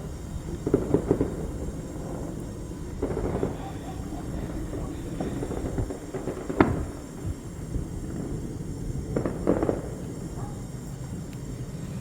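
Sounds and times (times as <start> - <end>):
distant fireworks bangs: 0.0 - 11.8
low background rumble: 0.0 - 12.0.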